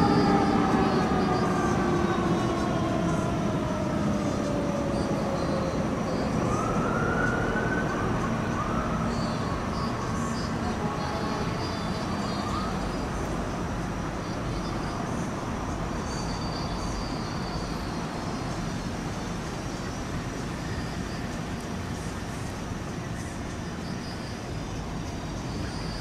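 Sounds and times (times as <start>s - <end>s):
faint siren wail: 0.0s - 21.1s
street traffic rumble: 0.0s - 26.0s.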